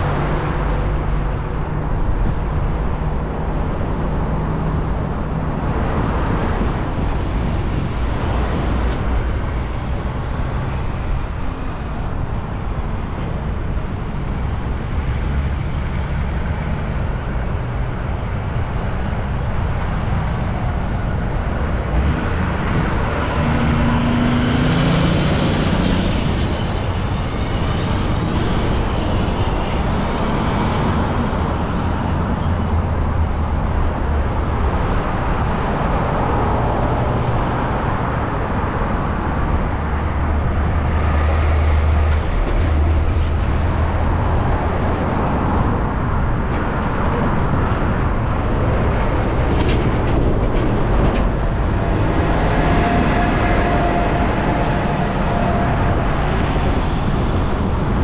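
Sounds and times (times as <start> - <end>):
highway traffic passing: 0.0 - 58.0
passing vehicle engine drone: 0.0 - 58.0.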